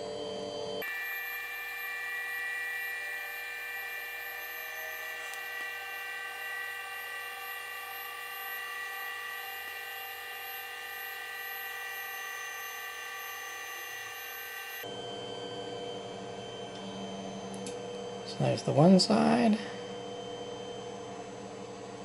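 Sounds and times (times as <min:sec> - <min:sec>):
stepper motors whining: 0:00.0 - 0:21.4.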